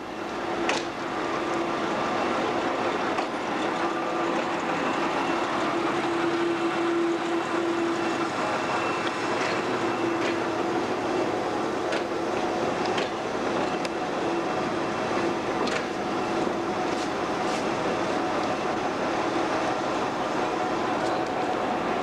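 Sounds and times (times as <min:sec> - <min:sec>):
locomotive engine humming: 0:00.0 - 0:22.0.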